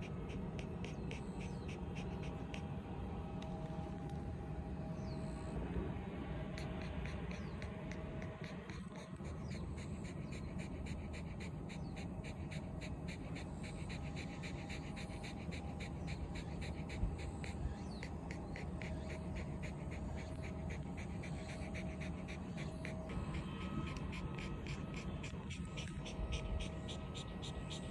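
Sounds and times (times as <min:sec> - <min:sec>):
dog panting: 0:00.0 - 0:27.9.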